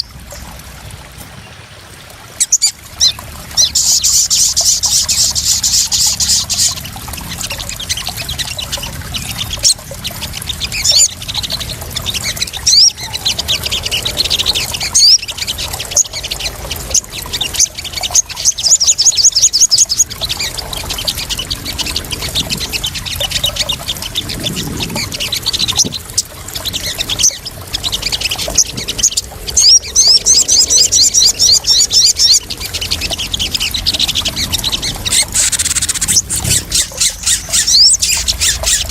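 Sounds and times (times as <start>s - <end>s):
water splashing and trickling: 0.0s - 38.9s
bird chattering trills: 2.4s - 38.9s.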